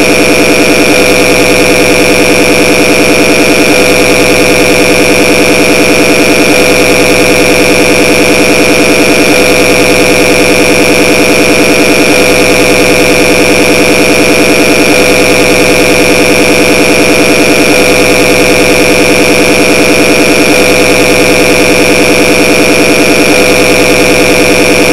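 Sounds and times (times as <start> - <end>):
fast-warbling lower tones: 0.0 - 24.9
piercing high electronic tone: 0.0 - 24.9.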